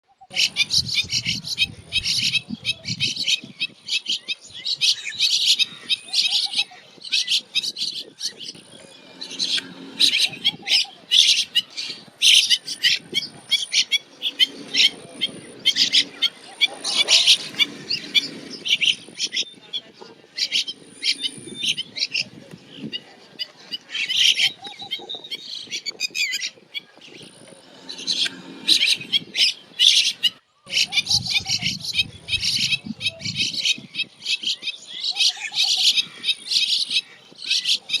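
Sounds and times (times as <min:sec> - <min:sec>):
birds chirping and screeching: 0:00.2 - 0:38.0.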